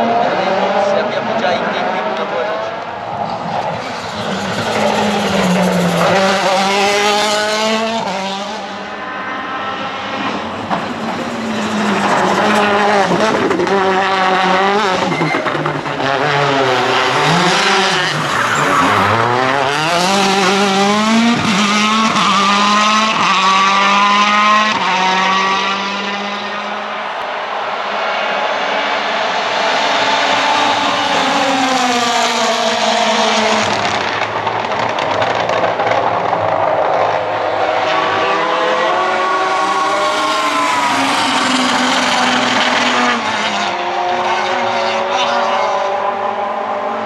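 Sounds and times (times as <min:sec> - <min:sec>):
rally car engine revving: 0:00.0 - 0:47.0.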